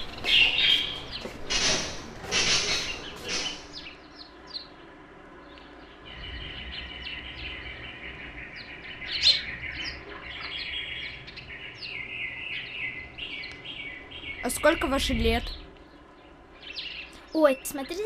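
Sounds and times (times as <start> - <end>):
harsh rasping bird calls: 0.0 - 18.0
small birds chirping and twittering: 0.0 - 18.0.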